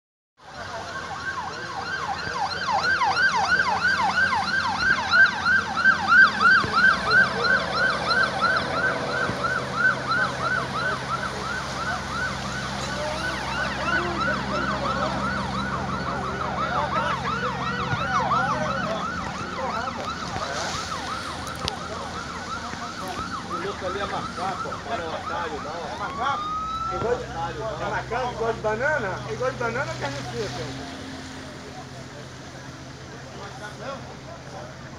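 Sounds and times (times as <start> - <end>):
emergency siren yelping: 0.4 - 32.0
low engine drone: 0.6 - 34.9.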